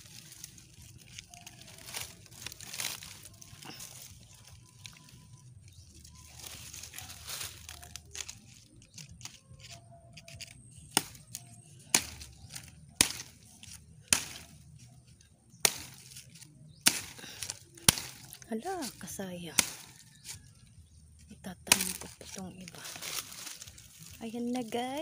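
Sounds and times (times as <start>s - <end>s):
rustling and scraping: 0.0s - 19.0s, 19.6s - 25.0s.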